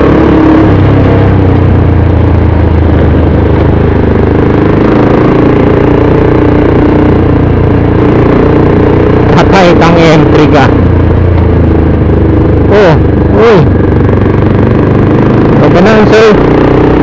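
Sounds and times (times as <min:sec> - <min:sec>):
motorcycle engine running: 0:00.0 - 0:17.0
wind rush and road noise: 0:00.0 - 0:17.0.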